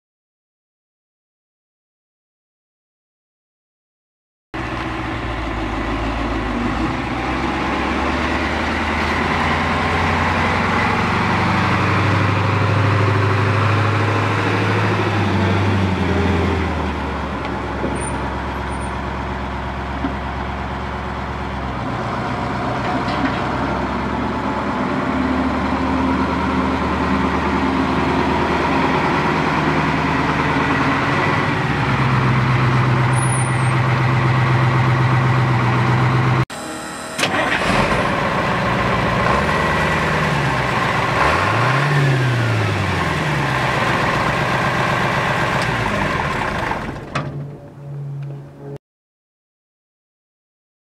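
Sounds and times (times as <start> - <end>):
truck engine running: 4.6 - 48.7.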